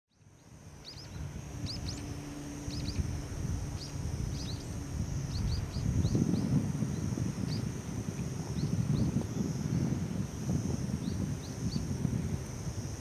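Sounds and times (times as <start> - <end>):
small birds chirping: 0.1 - 13.0
high-pitched drone: 0.5 - 13.0.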